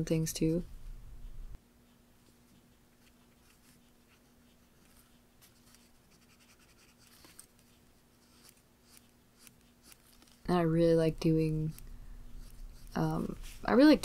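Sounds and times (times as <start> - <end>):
faint steady hum: 0.0 - 14.0
pencil scratching on paper: 2.4 - 14.0.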